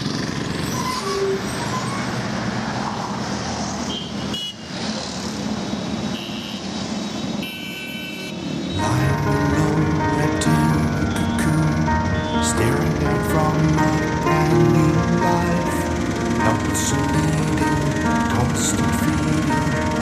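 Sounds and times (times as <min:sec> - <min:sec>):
vehicle engines and tyre noise: 0:00.0 - 0:20.0.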